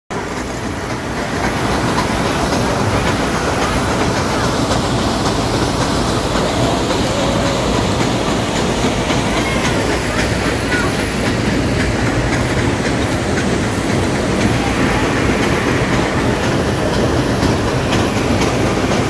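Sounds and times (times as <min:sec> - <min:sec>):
train wheels rumbling on rails: 0:00.1 - 0:19.0.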